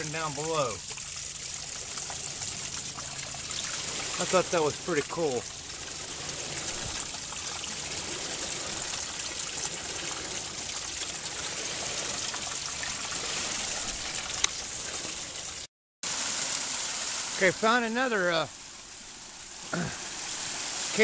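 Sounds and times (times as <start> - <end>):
spring water trickling over rock: 0.0 - 21.0.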